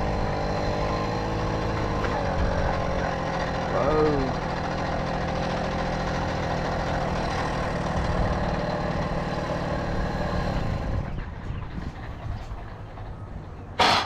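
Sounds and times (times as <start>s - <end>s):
moped engine running: 0.0s - 14.0s.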